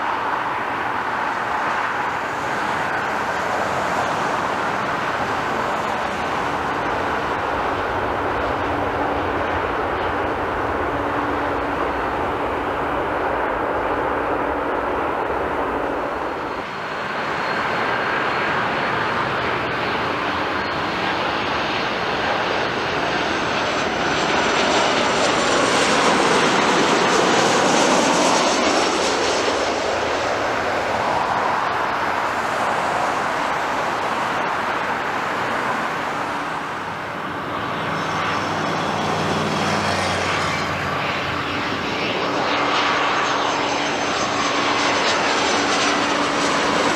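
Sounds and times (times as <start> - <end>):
approaching airliner engines: 0.0 - 46.9
jet airliner passing overhead: 0.0 - 46.9.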